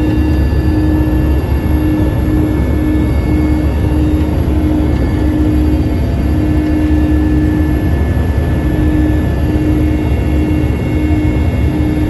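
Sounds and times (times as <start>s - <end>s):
aircraft engine rumble: 0.0s - 12.0s
high engine whine: 0.0s - 12.0s
intermittent hum: 0.0s - 12.0s.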